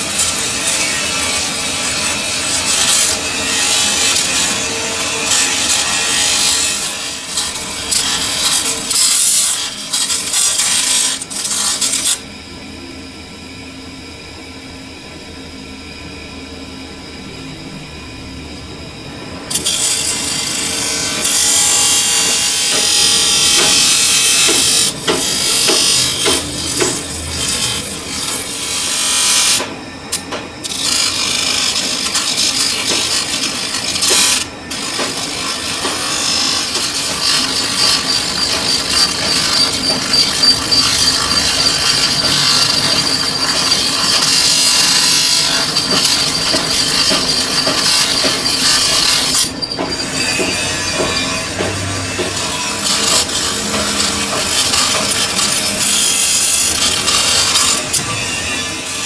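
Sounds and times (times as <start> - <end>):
lathe tool scraping metal: 0.0 - 12.2, 19.5 - 59.0
machine humming: 0.0 - 59.0.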